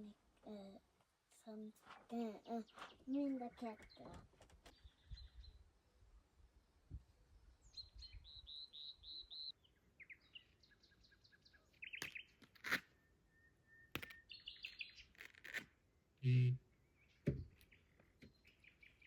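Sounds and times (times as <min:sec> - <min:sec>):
songbirds singing: 0:01.4 - 0:15.6, 0:16.2 - 0:19.0.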